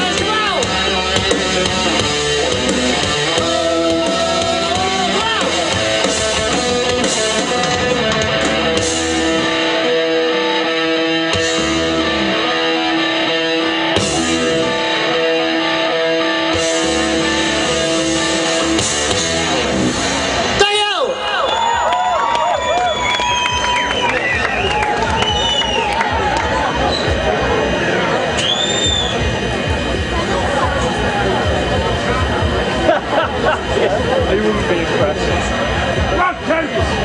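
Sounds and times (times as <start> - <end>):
electric guitar bending notes: 0.0 - 21.2, 22.8 - 37.0
heavy metal band playing: 0.0 - 21.8, 23.0 - 37.0.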